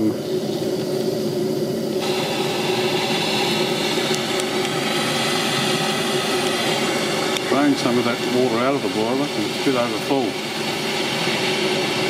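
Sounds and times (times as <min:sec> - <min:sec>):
pump running: 0:00.0 - 0:12.0
water blowing out through hose: 0:01.9 - 0:12.0.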